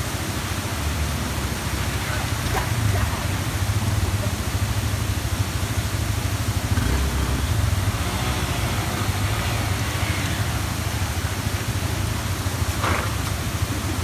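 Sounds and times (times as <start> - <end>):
motorcycle engines at low revs: 0.0 - 14.0.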